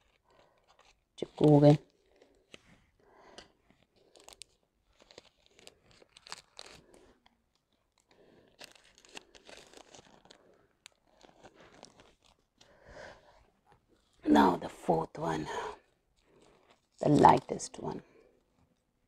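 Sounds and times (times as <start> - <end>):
thin plastic crinkling: 0.0 - 14.2, 15.8 - 19.0.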